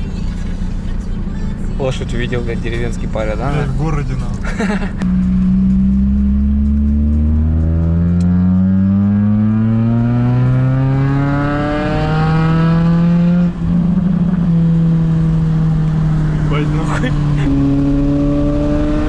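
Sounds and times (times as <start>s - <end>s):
loud car engine accelerating: 0.0s - 19.0s.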